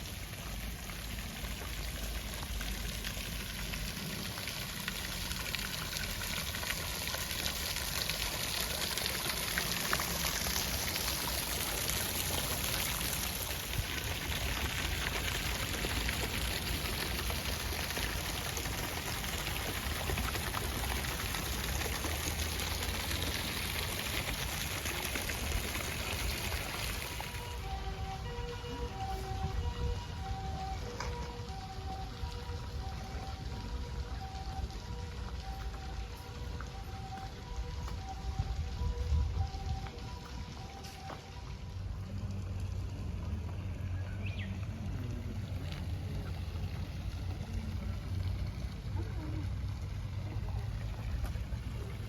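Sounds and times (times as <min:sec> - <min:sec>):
running splashing water: 0:00.0 - 0:43.7, 0:44.4 - 0:52.0.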